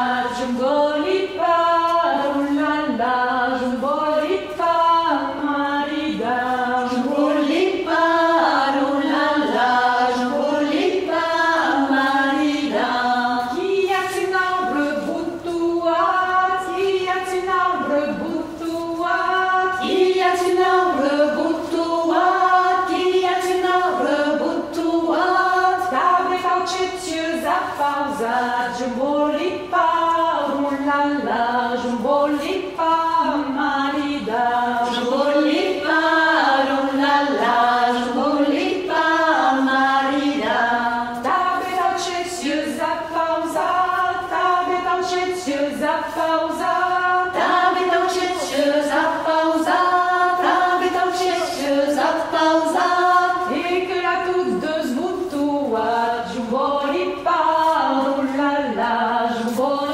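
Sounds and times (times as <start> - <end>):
women singing unaccompanied: 0.0 - 59.9.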